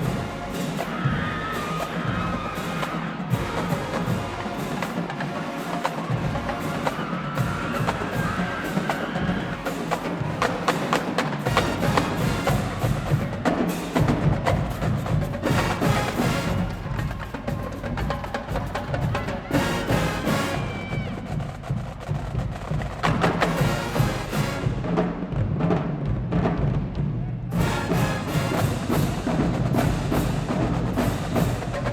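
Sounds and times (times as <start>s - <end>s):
drumline percussion: 0.0s - 31.9s
marching band brass: 0.0s - 31.9s.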